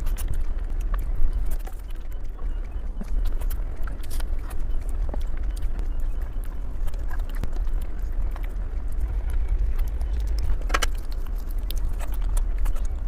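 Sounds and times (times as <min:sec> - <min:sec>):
person chewing and crunching: 0:00.0 - 0:13.0
steady low rumble: 0:00.0 - 0:13.0.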